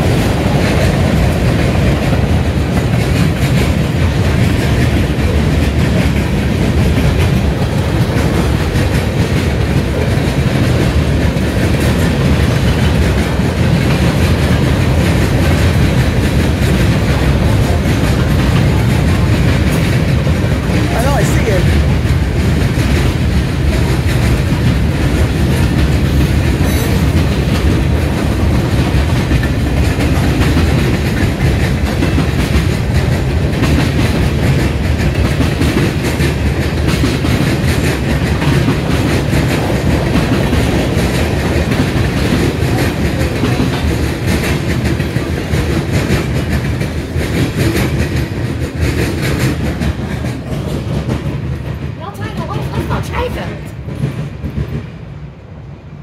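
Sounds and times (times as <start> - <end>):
steel wheels clattering on rails: 0.0 - 55.0.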